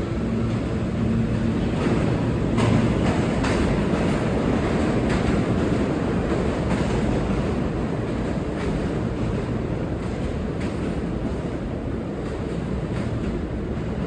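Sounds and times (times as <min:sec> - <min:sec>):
subway train rumbling on rails: 0:00.0 - 0:14.0.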